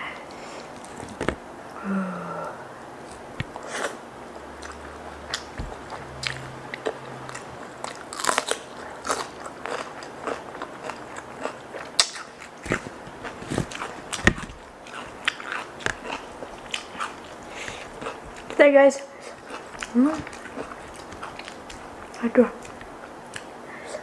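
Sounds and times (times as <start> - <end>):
crunching and chewing food: 0.2 - 1.4, 3.0 - 24.0.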